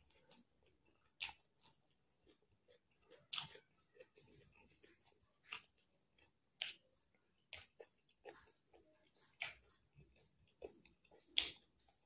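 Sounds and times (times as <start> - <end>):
chewing with wet mouth smacks: 0.0 - 12.0.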